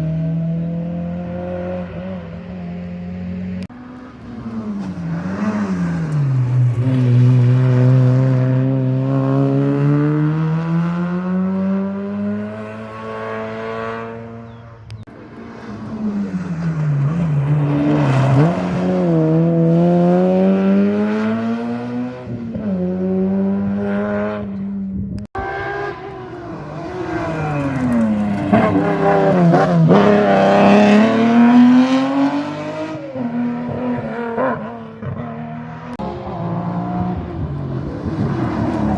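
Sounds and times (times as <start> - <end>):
rally car engines at full throttle: 0.0 - 38.9.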